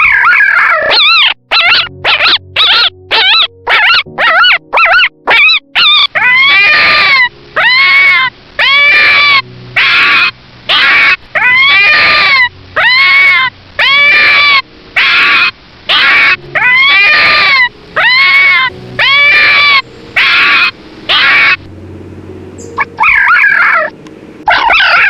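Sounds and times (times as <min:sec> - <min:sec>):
animal calling high-pitched: 0:00.0 - 0:21.6, 0:22.6 - 0:23.9, 0:24.5 - 0:25.0.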